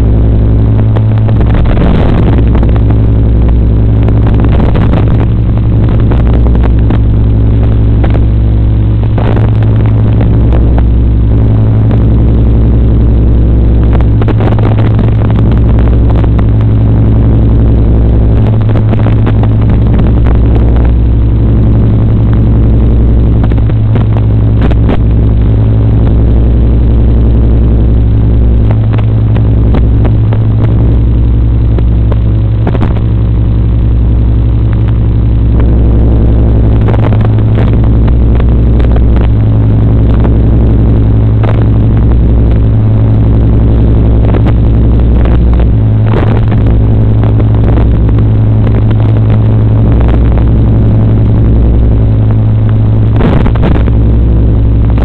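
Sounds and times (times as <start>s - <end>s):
loud steady low hum: 0.0s - 55.0s.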